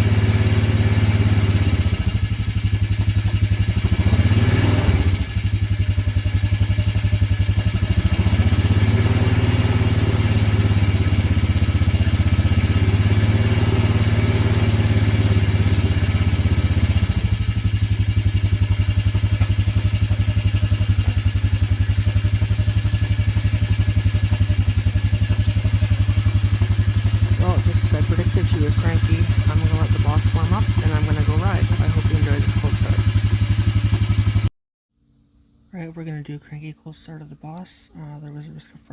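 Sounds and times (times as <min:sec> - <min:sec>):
vehicle engine idling: 0:00.0 - 0:34.5.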